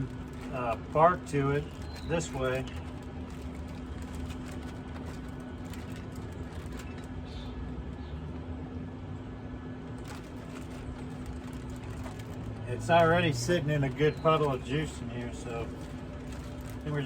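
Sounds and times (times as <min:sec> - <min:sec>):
smoker fan and motor hum: 0:00.0 - 0:17.0.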